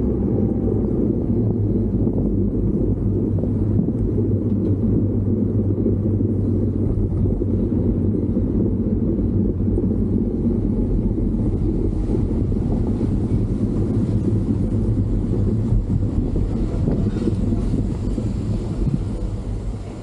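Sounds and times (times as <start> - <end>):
vehicle engine drone: 0.0 - 20.0
wind rumble: 0.0 - 20.0.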